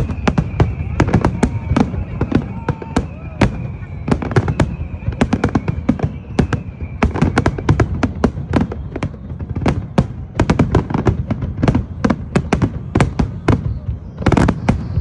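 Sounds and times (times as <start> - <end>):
fireworks bangs and crackles: 0.0 - 15.0
low rumble of fireworks booms: 0.0 - 15.0.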